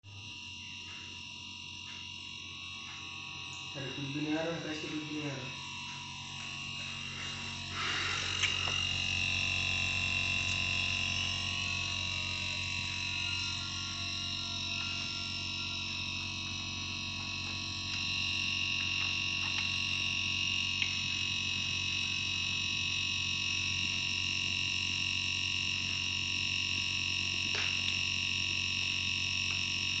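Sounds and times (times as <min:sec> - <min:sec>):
air conditioner compressor humming: 0:00.0 - 0:30.0
high-pitched whine: 0:00.0 - 0:30.0.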